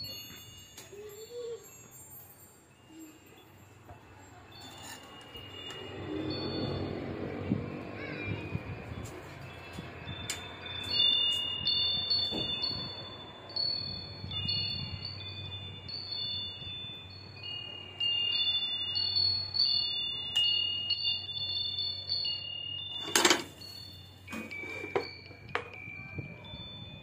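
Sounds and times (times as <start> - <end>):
metal chimes tinkling: 0.0 - 27.0.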